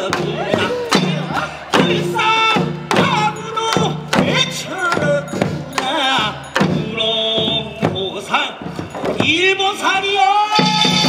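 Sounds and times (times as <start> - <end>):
drum strikes: 0.0 - 11.0.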